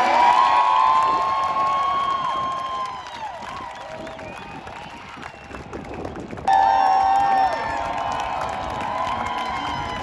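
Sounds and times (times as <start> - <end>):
crowd cheering: 0.0 - 10.0.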